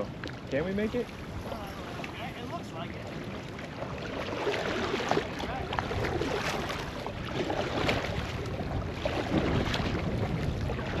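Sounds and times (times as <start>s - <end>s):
water splashing against a kayak: 0.0s - 11.0s
wind buffeting microphone: 0.0s - 11.0s.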